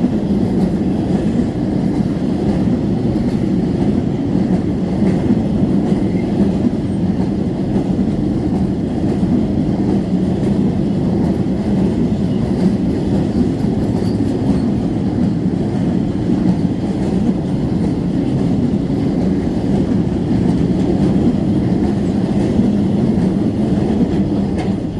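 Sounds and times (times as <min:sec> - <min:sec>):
freight train wheels rumbling on rails: 0:00.0 - 0:24.9.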